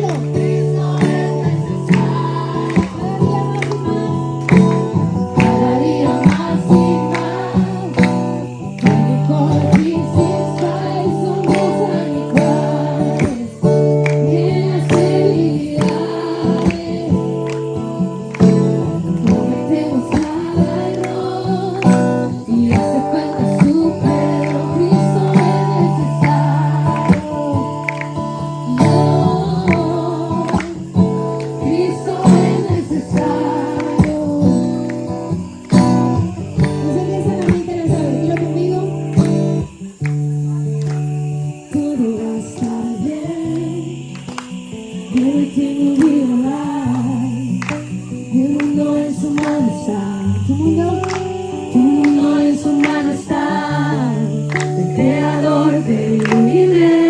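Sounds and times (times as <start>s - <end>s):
person singing: 0.0s - 35.6s, 36.4s - 40.6s, 41.5s - 44.2s, 44.9s - 57.0s
strummed acoustic guitar: 0.0s - 57.0s.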